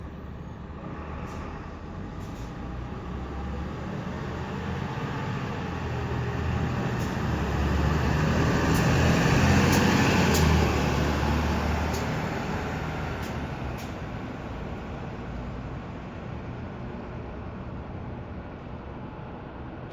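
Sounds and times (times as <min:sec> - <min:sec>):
bus engine pulling away: 0:00.0 - 0:19.9.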